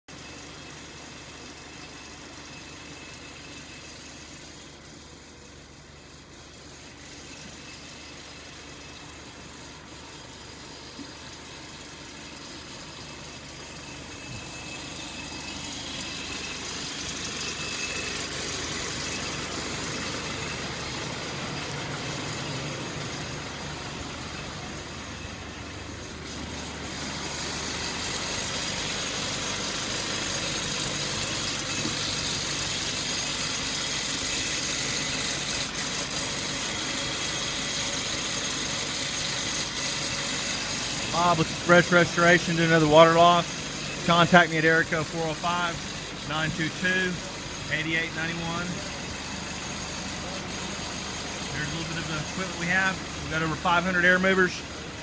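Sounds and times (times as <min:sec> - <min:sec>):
engine idling: 0:00.1 - 0:55.0.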